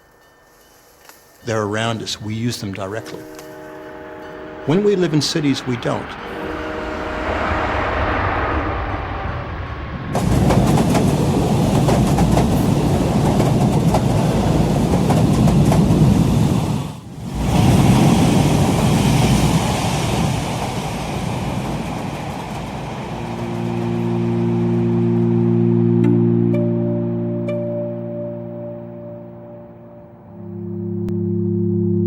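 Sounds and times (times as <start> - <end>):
vehicle rumbling: 2.3 - 16.3, 17.1 - 32.0.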